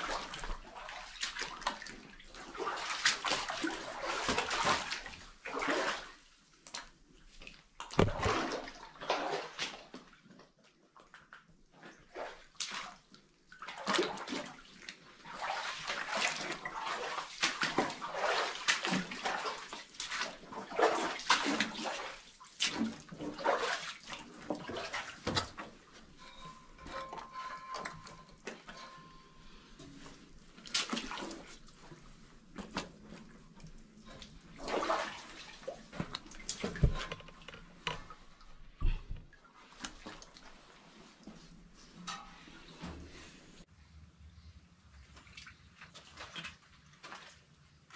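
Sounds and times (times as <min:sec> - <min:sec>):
sloshing steps in shallow water: 0:00.0 - 0:10.2, 0:11.0 - 0:28.9, 0:29.8 - 0:42.0, 0:45.1 - 0:47.6.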